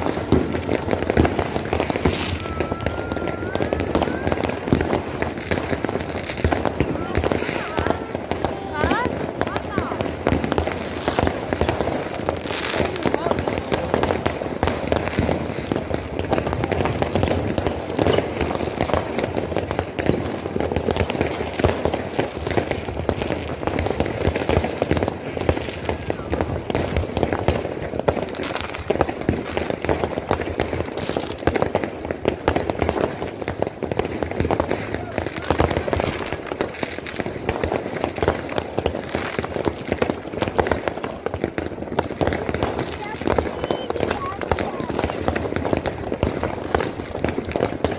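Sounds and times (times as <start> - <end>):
fireworks and firecrackers banging: 0.0 - 47.9.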